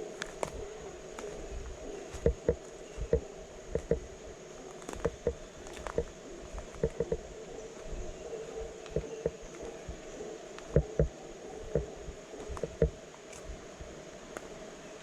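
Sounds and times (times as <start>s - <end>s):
high insect buzz: 0.0s - 15.0s.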